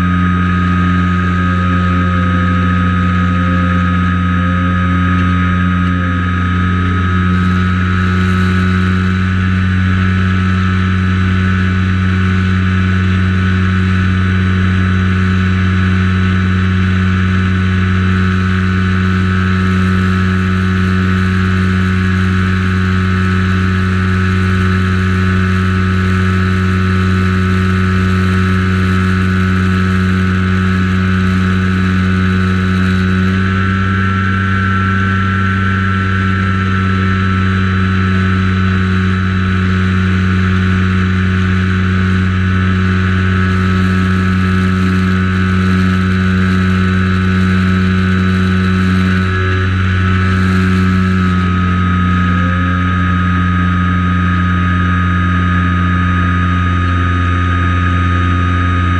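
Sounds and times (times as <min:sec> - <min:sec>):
propeller aircraft engine droning: 0:00.0 - 0:58.9.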